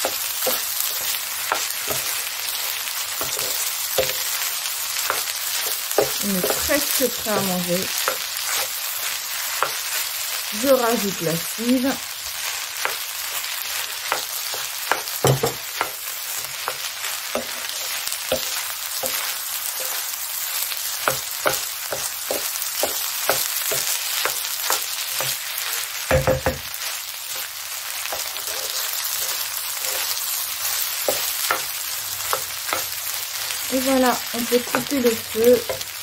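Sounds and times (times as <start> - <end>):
spatula scraping and knocking pan: 0.0 - 11.0, 11.9 - 36.0
fried rice sizzling in a pan: 0.0 - 36.0.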